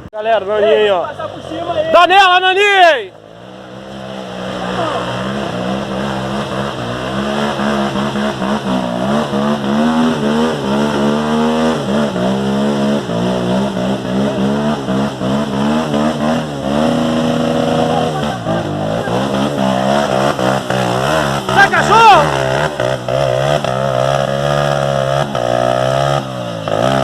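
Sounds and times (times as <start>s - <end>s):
motorcycle engine revving: 3.1s - 27.0s.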